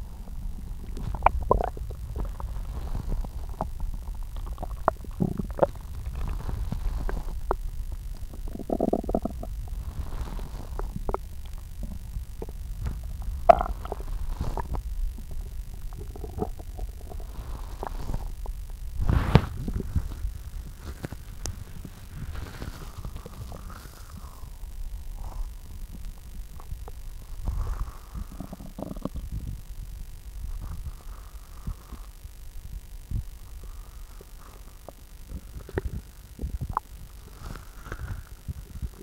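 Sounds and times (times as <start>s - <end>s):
stomach growling and gurgling: 0.0s - 39.0s.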